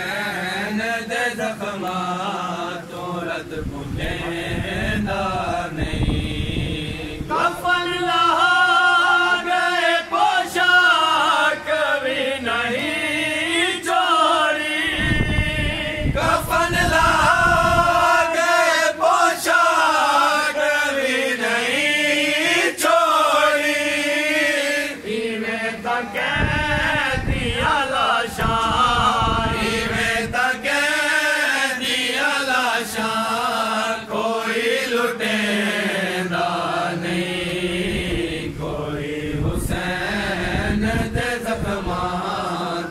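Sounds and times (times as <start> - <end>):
men chanting a lament: 0.0 - 42.9.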